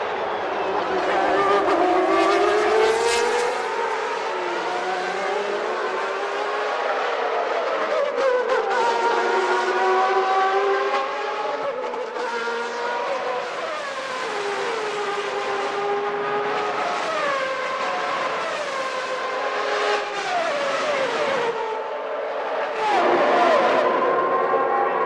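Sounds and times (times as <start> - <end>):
racing car engines at high revs: 0.1 - 25.0.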